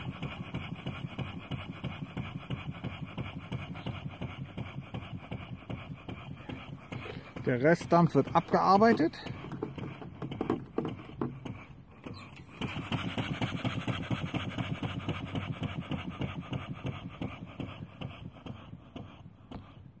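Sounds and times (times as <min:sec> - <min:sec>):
model steam engine exhaust puffing: 0:00.0 - 0:20.0.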